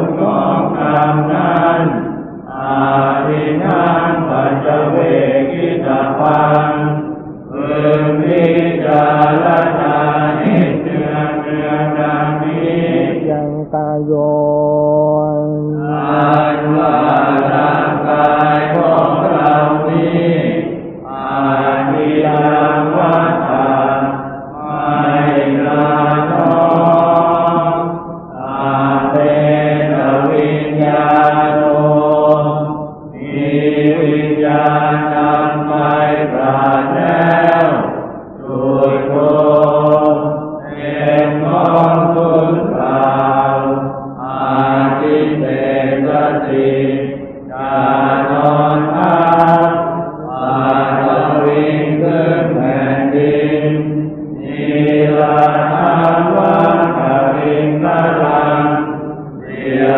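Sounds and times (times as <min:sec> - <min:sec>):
voices chanting in monotone: 0:00.0 - 0:59.9.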